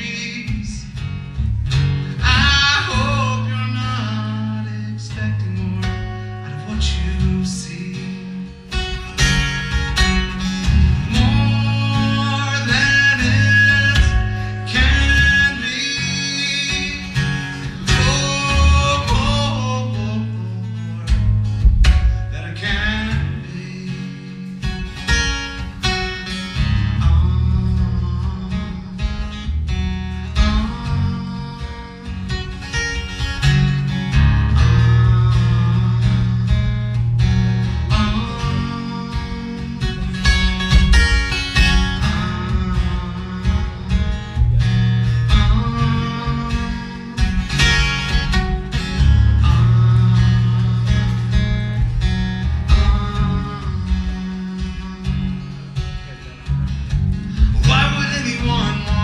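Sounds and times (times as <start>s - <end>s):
acoustic guitar: 0.0s - 59.0s.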